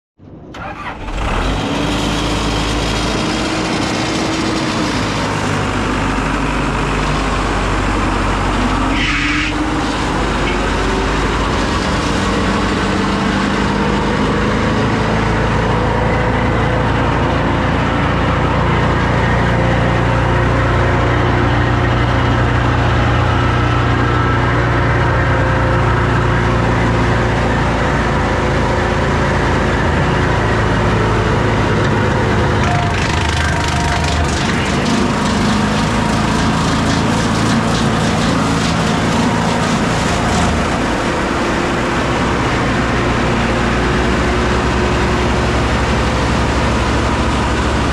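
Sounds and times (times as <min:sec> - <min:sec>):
wood chipper engine running: 0:00.4 - 0:47.9.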